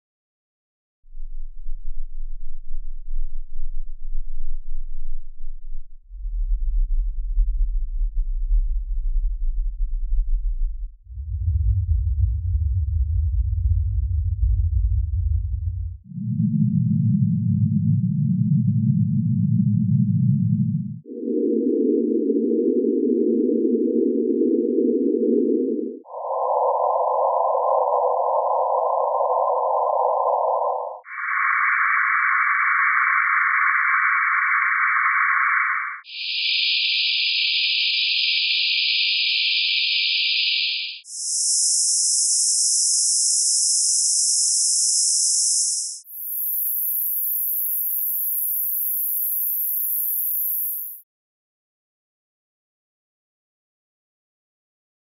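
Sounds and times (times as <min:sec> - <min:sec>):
very deep filtered noise: 0:05.9 - 0:51.0.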